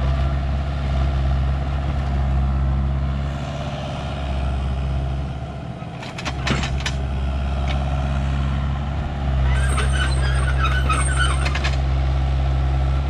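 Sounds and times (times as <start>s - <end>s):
heavy engine idling: 0.0s - 13.0s.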